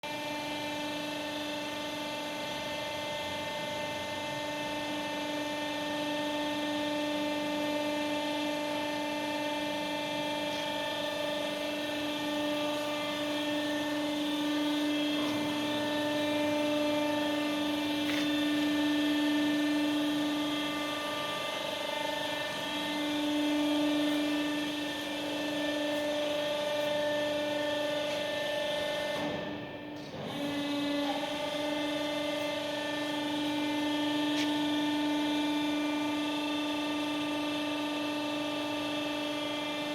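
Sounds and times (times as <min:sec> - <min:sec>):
baling press humming and whining: 0:00.0 - 0:39.9.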